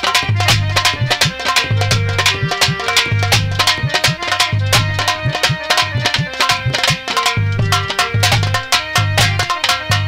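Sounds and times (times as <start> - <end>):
hand drum beaten rapidly: 0.0 - 10.0
held melody tones: 0.1 - 10.0.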